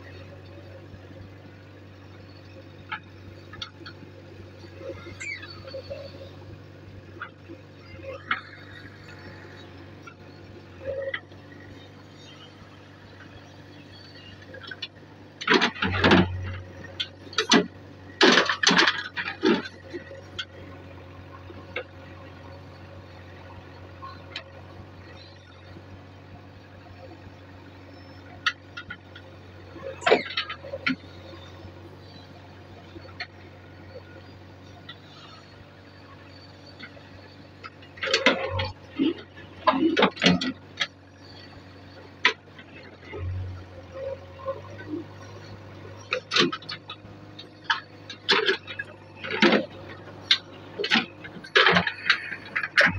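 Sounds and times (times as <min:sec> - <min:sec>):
diesel engine running: 0:00.0 - 0:52.9
backhoe scraping earth and stone: 0:02.1 - 0:21.9, 0:27.9 - 0:52.9.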